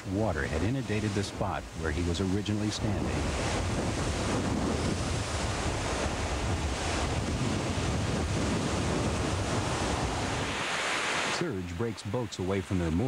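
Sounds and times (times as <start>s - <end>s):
surf breaking on shore: 0.0s - 13.0s
wind blowing on microphone: 0.0s - 13.0s.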